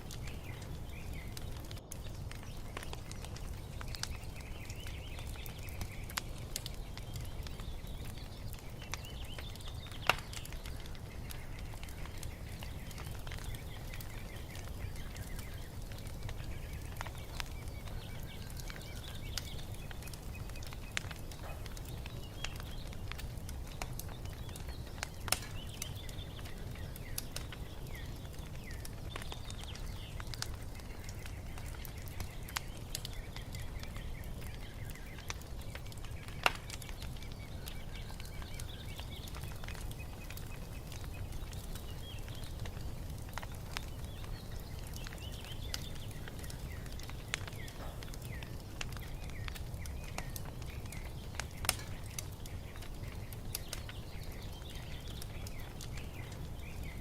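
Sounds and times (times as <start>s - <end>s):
small birds chirping: 0.0s - 57.0s
wood fire crackling: 0.0s - 57.0s.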